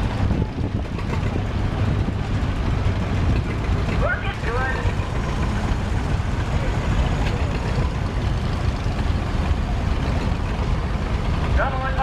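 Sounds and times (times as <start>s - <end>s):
tractor engine driving past: 0.0s - 12.0s.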